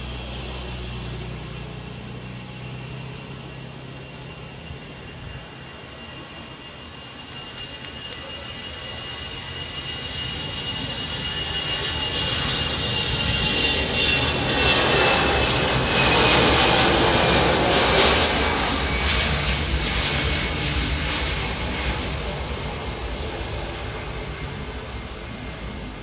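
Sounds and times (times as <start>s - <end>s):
jet airliner roar: 0.0s - 26.0s
jet engine whine: 0.0s - 26.0s.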